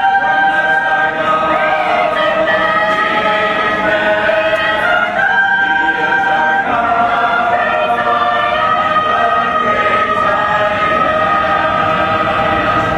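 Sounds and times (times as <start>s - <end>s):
choir singing a hymn: 0.0s - 12.9s.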